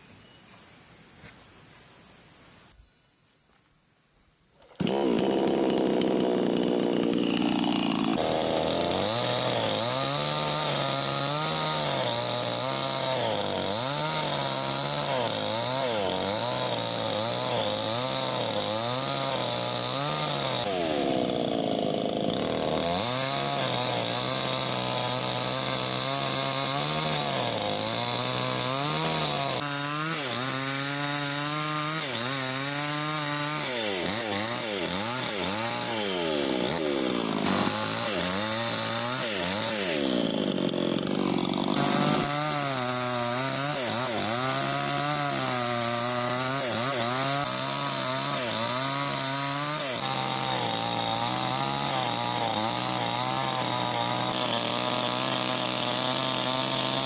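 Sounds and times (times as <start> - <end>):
small engine revving: 4.6 - 57.0.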